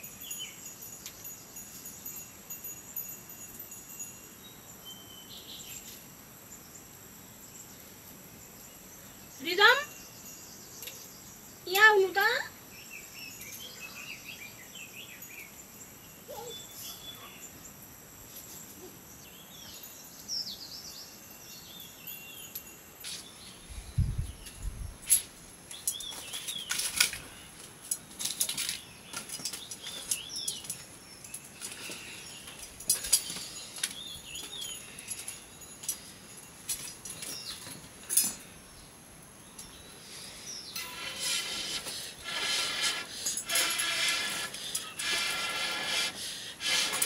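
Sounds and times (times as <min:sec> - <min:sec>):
small birds chirping: 0:07.4 - 0:27.7, 0:28.3 - 0:36.4, 0:37.0 - 0:47.0.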